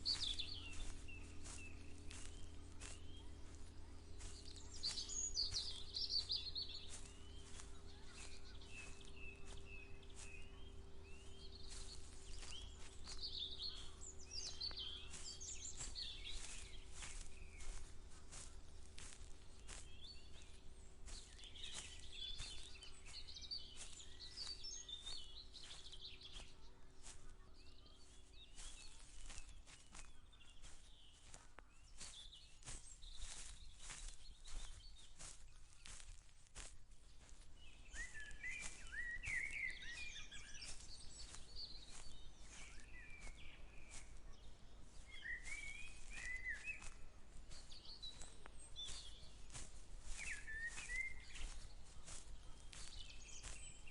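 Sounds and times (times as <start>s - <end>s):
footsteps on field path: 0.0s - 53.9s
small birds chirping: 0.0s - 53.9s.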